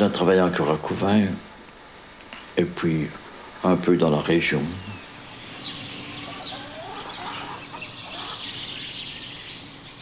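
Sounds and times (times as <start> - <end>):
birds chirping: 0.0 - 10.0
steady background hiss: 0.0 - 10.0.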